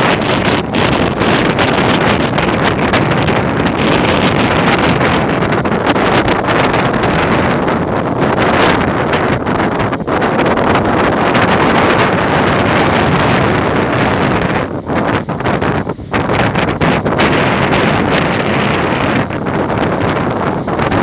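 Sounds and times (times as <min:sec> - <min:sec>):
ocean surf: 0:00.0 - 0:21.0.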